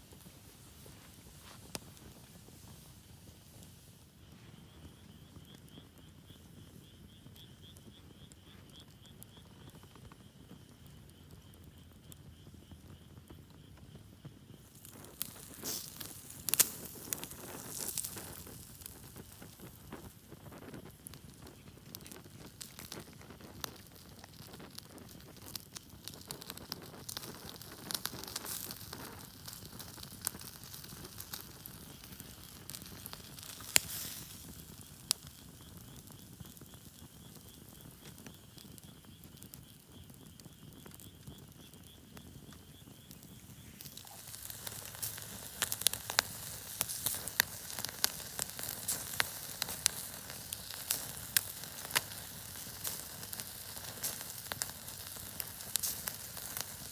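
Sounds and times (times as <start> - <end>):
campfire crackling and popping: 0.0 - 56.9
soft fire hiss: 0.0 - 56.9.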